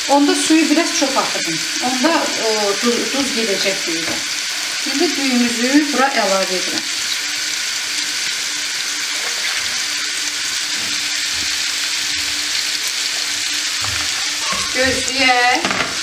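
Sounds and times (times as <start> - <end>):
stove sizzling hiss: 0.0 - 16.0.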